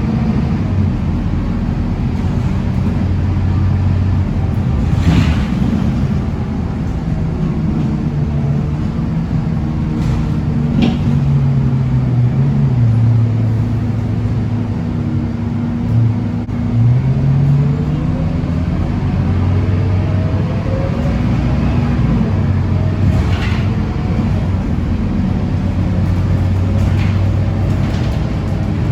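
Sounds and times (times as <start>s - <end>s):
bus diesel engine accelerating: 0.0s - 28.9s.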